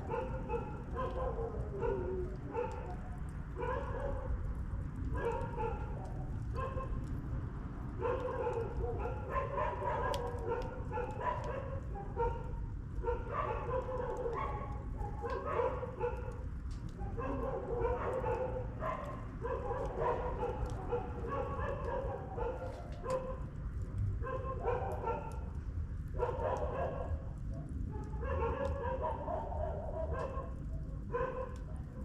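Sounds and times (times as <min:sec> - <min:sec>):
campfire crackling: 0:00.0 - 0:32.0.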